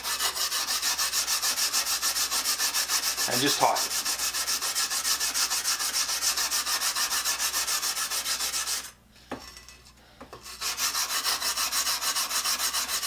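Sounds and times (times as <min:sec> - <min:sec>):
wire brush scrubbing metal: 0:00.0 - 0:08.9, 0:10.4 - 0:13.0.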